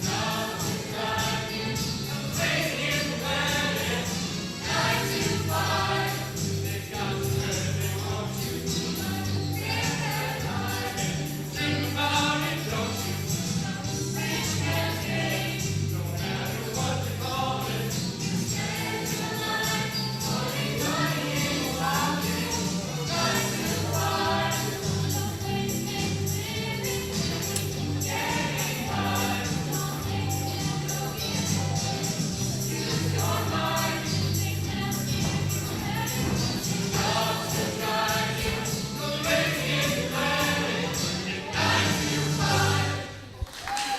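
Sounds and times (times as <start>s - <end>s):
choir singing: 0.0s - 43.4s.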